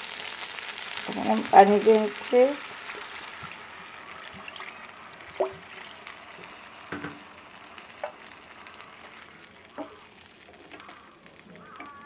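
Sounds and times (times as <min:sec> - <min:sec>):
oil sizzling and bubbling in a pan: 0:00.0 - 0:12.0.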